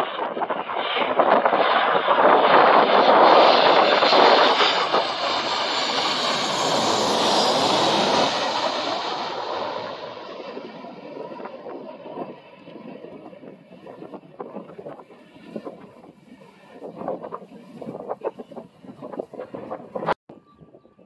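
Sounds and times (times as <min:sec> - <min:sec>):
jet engine roar overhead: 0:00.0 - 0:20.8.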